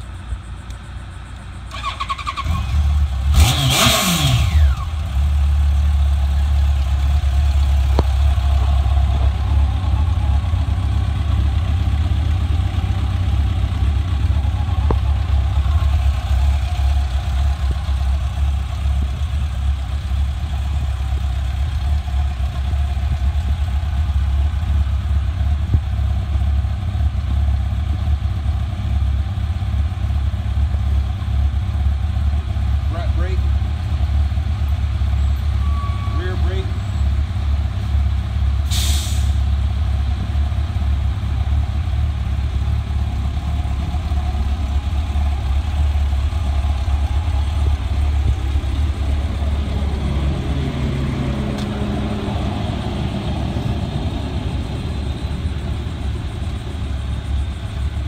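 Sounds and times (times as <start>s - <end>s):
motorcycle engine starting and idling: 0.0s - 58.0s.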